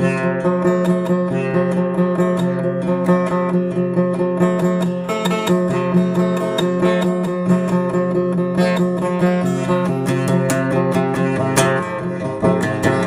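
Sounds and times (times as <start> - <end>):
solo guitar picking: 0.0 - 13.0.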